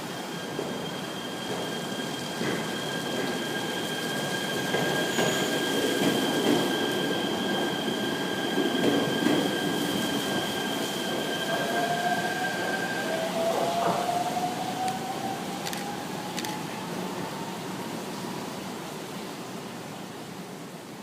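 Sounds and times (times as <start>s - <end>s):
train wheels rumbling on rail: 0.0s - 17.4s.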